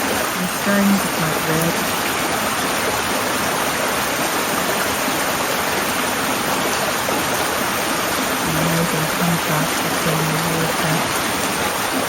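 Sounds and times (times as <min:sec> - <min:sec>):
brook babbling over stones: 0:00.0 - 0:12.0.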